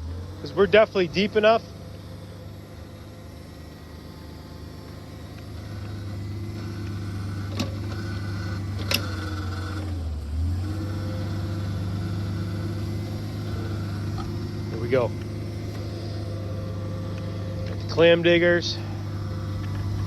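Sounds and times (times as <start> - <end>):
auger engine running: 0.0 - 20.0.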